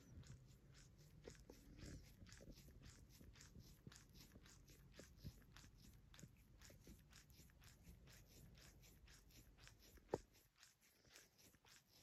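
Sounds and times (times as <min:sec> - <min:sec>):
cat licking skin rasping: 0:00.0 - 0:12.0.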